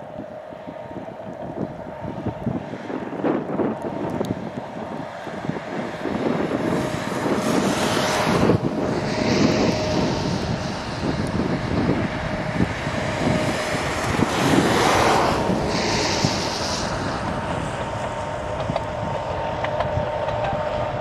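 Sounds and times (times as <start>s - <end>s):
diesel locomotive engine hum: 0.0s - 21.0s
wind buffeting microphone: 0.0s - 21.0s.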